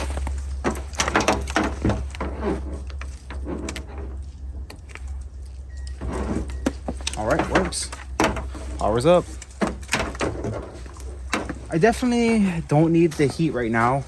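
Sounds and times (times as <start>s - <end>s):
handling clicks and knocks: 0.0s - 14.0s
soft rustles: 0.0s - 14.0s
steady low hum: 0.0s - 14.0s.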